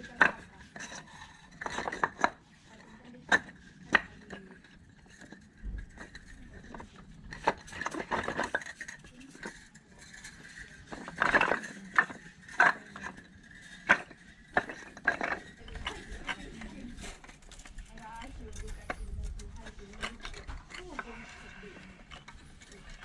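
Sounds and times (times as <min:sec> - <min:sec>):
hard objects knocking and clicking: 0:00.0 - 0:23.0.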